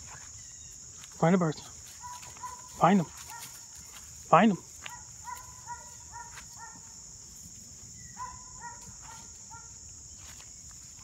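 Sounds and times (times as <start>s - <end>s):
faint ticks or rustles: 0.0s - 11.0s
insects droning: 0.0s - 11.0s
repeated insect calls: 0.0s - 11.0s.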